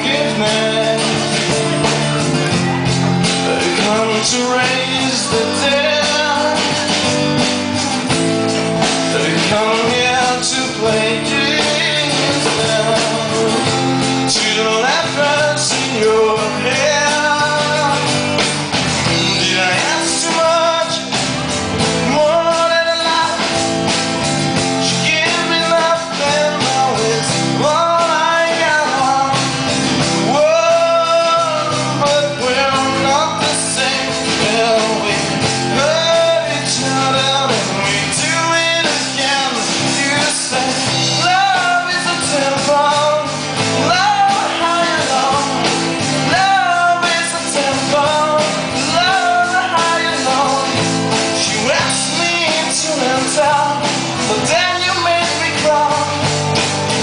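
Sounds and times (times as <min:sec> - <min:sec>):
acoustic guitars: 0:00.0 - 0:57.0
drum kit: 0:00.0 - 0:57.0
man singing: 0:00.0 - 0:57.0.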